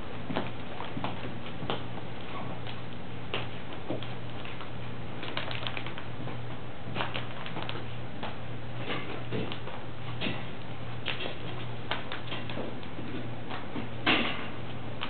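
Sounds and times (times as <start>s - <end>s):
puppy paws pattering on paper: 0.2s - 13.9s.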